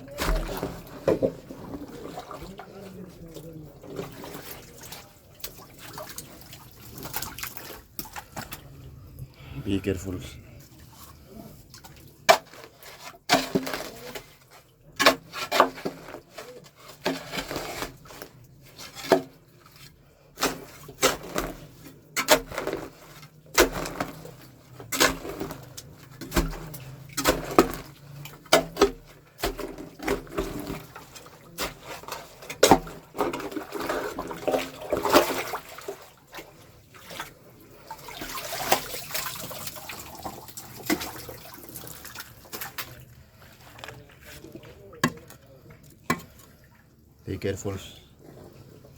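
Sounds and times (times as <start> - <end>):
water sloshing: 0.0 - 48.9.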